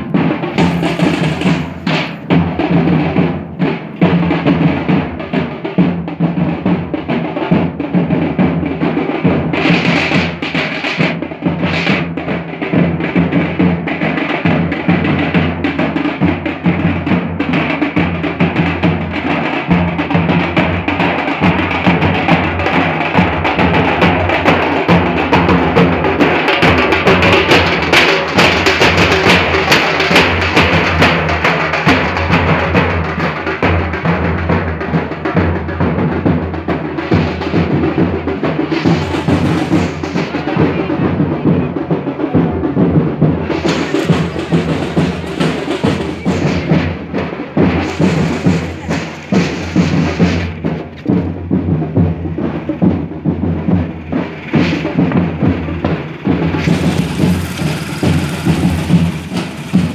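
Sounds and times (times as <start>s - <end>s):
barrel drums beaten rhythmically: 0.0s - 59.9s.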